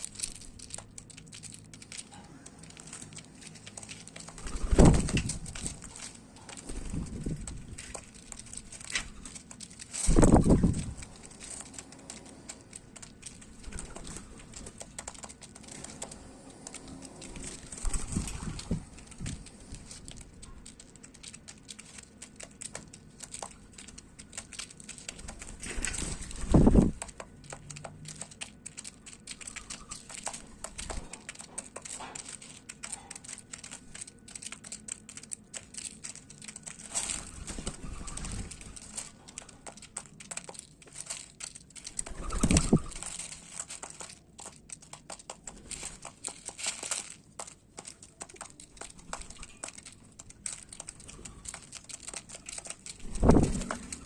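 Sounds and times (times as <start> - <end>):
birds pecking at seed: 0.0 - 54.0.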